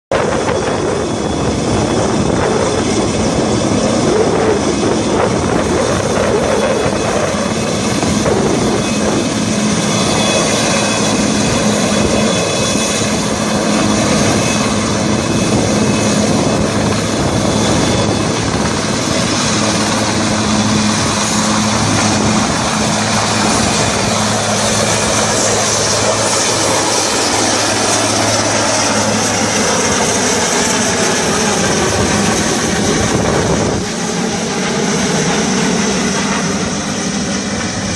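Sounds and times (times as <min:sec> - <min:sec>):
helicopter rotor chopping: 0:00.1 - 0:37.9
turbine engines whining: 0:00.1 - 0:37.9.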